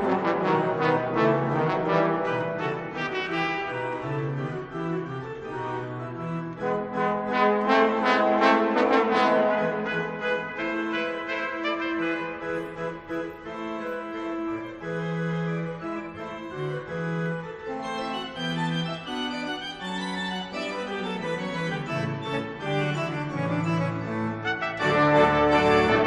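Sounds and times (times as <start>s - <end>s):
pipe organ playing: 0.0s - 26.0s.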